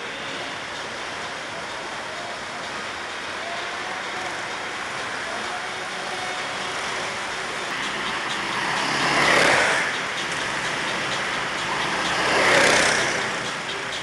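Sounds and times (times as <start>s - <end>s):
go-kart engines droning: 0.0s - 14.0s
go-kart passing close: 0.0s - 14.0s.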